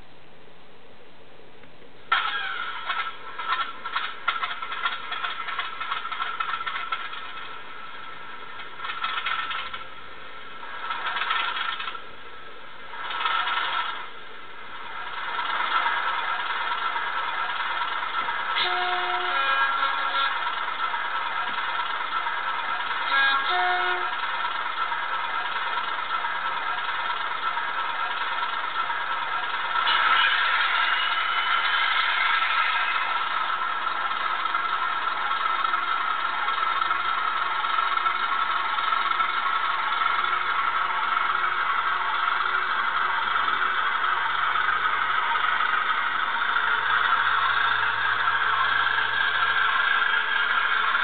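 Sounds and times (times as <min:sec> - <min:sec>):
model train diesel engine sound: 0:01.6 - 0:51.0.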